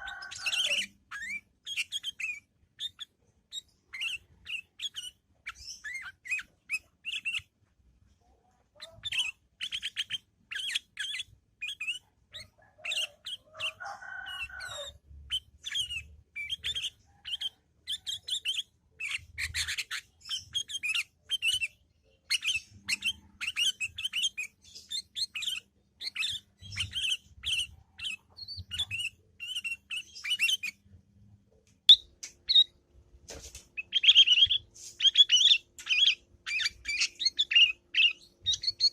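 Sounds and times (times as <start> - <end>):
bulbul chattering: 0.0 - 7.5, 8.8 - 31.0, 31.9 - 32.8, 33.8 - 38.9.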